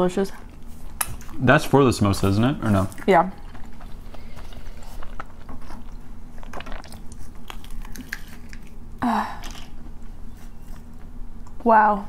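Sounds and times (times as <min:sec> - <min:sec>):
crunchy chewing: 0:00.3 - 0:11.6.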